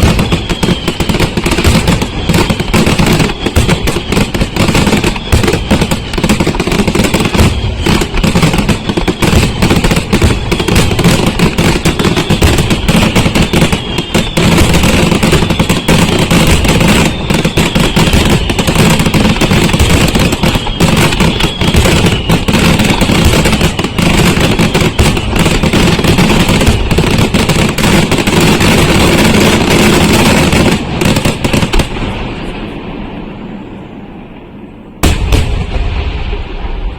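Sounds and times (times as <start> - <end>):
fireworks bangs and crackling: 0.0 - 36.9
fireworks falling whistles: 0.0 - 36.9.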